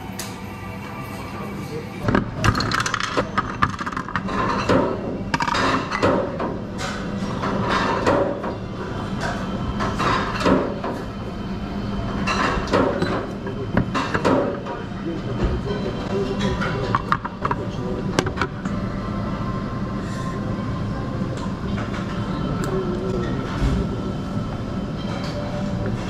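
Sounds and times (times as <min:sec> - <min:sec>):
restaurant background hum: 0:00.0 - 0:26.0.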